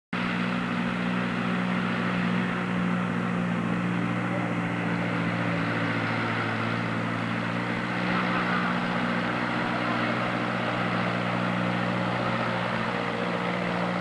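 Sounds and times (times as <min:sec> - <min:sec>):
tractor engine running: 0:00.1 - 0:14.0.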